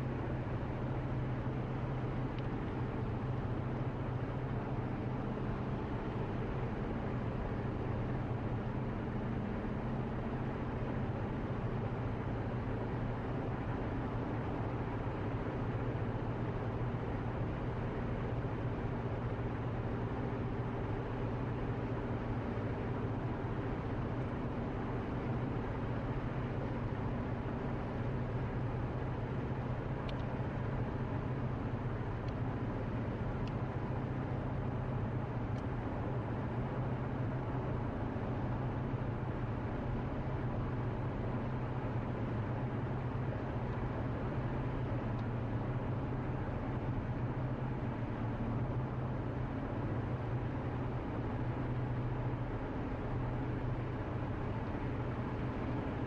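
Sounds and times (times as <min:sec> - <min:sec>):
car interior road noise: 0:00.0 - 0:56.0.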